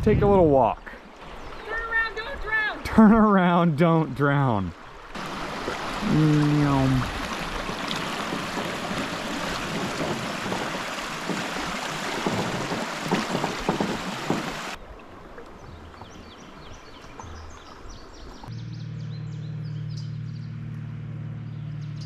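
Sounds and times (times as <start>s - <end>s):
creek water rushing: 0.8s - 18.5s.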